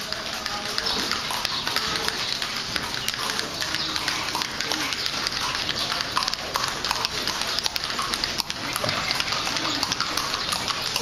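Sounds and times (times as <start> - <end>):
hooves clip-clopping on stone: 0.0 - 11.0.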